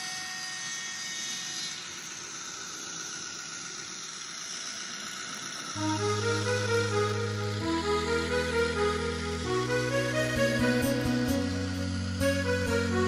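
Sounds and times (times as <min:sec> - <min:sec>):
model locomotive engine drone: 0:00.0 - 0:13.0.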